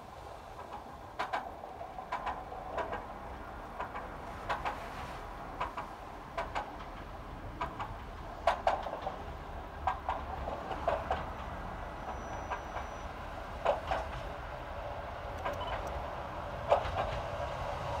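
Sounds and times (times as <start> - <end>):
train wheels clicking over rail joints: 0.1 - 18.0.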